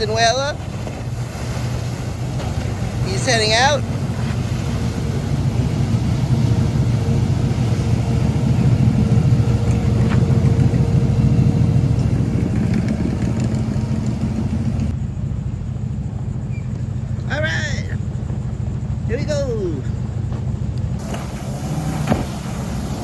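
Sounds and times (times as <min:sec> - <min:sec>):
motorboat engine rumbling: 0:00.0 - 0:23.0.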